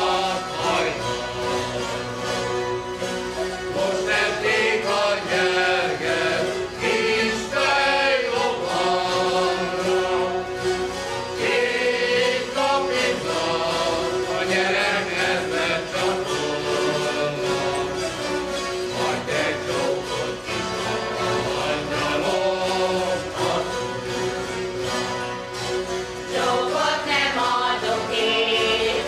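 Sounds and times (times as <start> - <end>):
choir singing: 0.0 - 29.0
zithers strumming folk music: 0.0 - 29.0.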